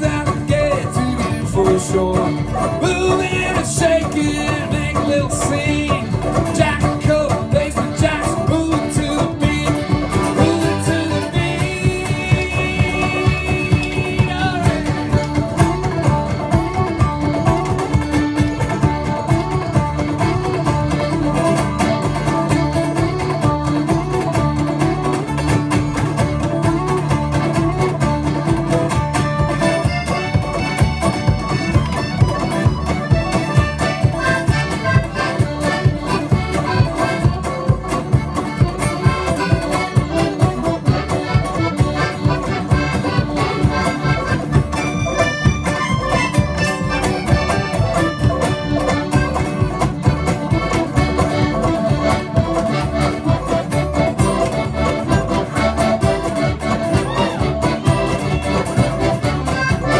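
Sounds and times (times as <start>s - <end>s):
accordion: 0.0s - 59.9s
acoustic guitar: 0.0s - 59.9s
mandolin: 0.0s - 59.9s
plucked upright bass: 0.0s - 59.9s.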